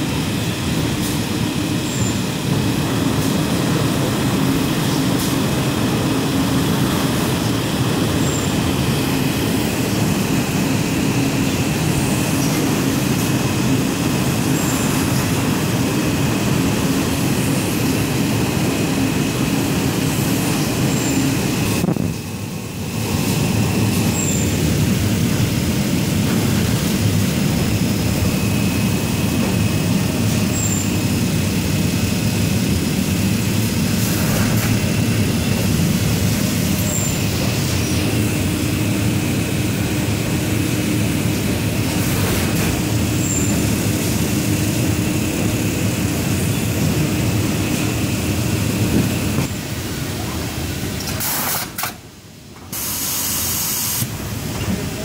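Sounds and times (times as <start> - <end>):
machinery mechanical drone: 0.0 - 52.8.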